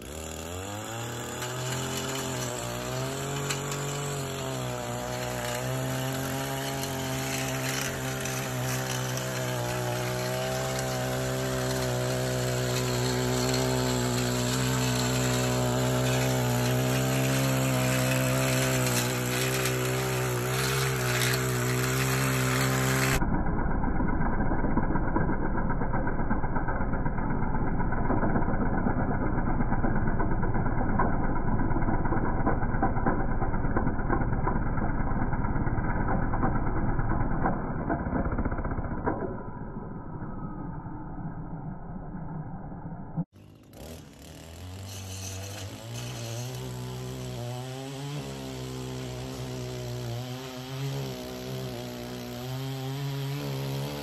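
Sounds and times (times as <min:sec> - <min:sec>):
lawn edger engine running: 0:00.0 - 0:42.5, 0:43.3 - 0:54.0.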